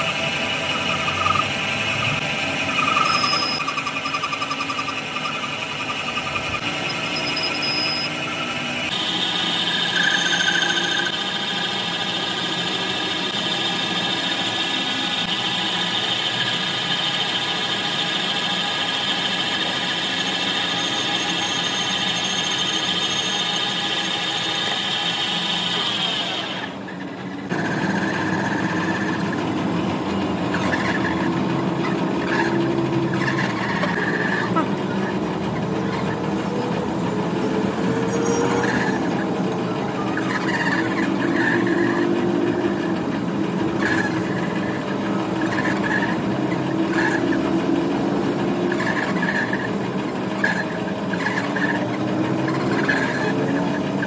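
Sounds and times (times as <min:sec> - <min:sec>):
lower machining noise: 0:00.0 - 0:54.0
metal lathe squealing: 0:00.0 - 0:54.0.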